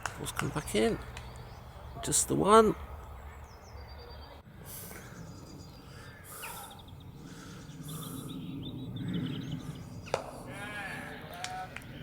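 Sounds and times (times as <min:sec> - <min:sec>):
birds chirping and trilling: 0:00.0 - 0:12.0
low outdoor background: 0:00.0 - 0:12.0.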